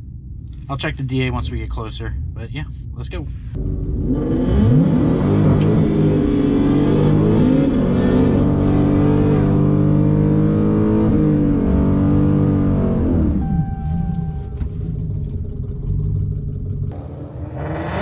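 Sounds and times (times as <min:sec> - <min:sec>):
car engine revving: 0:03.5 - 0:18.0.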